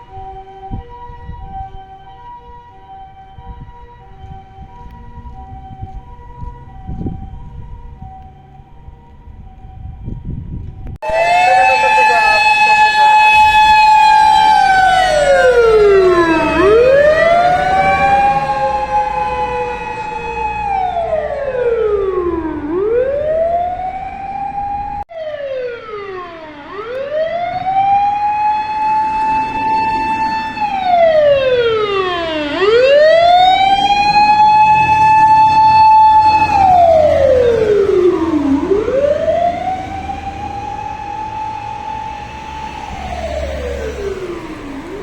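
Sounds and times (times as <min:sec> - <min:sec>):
fire engine siren wailing: 0:00.0 - 0:45.0.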